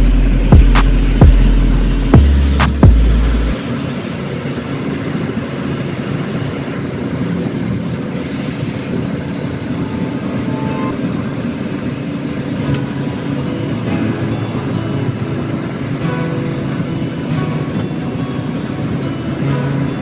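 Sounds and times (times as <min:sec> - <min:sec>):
bus engine and road noise: 0:00.0 - 0:20.0.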